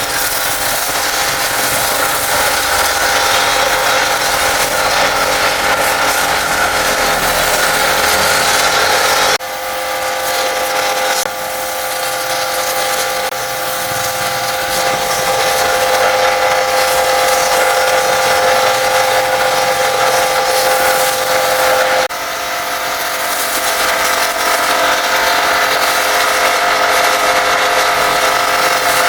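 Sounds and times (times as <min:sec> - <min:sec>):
pressure washer motor whine: 0:00.0 - 0:29.0
water jet hissing: 0:00.0 - 0:29.0.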